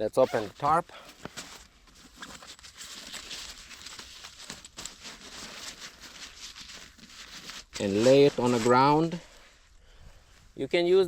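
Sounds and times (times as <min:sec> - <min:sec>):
tarp rustling and crinkling: 0:00.0 - 0:10.6.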